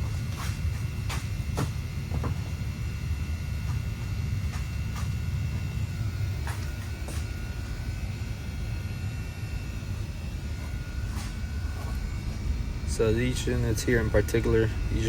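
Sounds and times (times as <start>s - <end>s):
faint high whines: 0.0s - 15.0s
low mechanical rumble: 0.0s - 15.0s.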